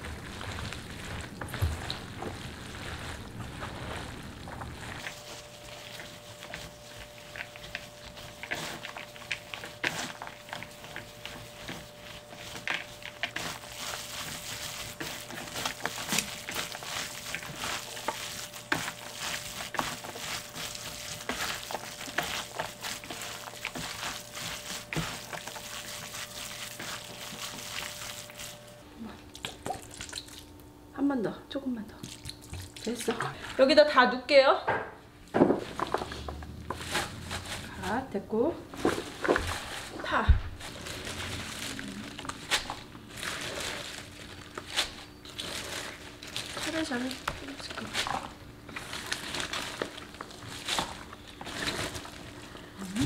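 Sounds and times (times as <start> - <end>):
wet squishing and rustling: 0.0 - 30.7, 31.9 - 34.0, 35.2 - 53.0.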